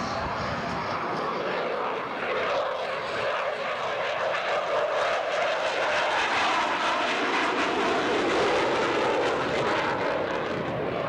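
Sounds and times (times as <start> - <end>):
fighter jet engines roaring: 0.0 - 11.0.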